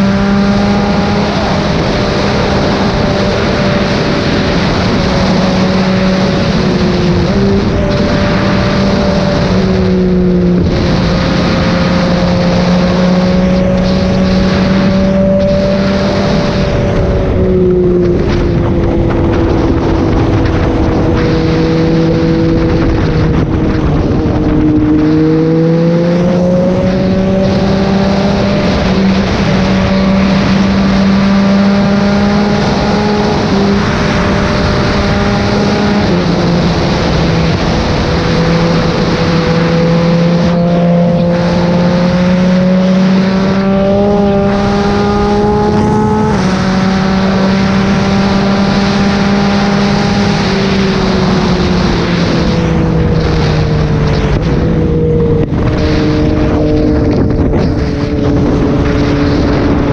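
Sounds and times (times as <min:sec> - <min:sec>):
motorcycle engine at highway speed: 0:00.0 - 0:59.9
wind noise rushing: 0:00.0 - 0:59.9.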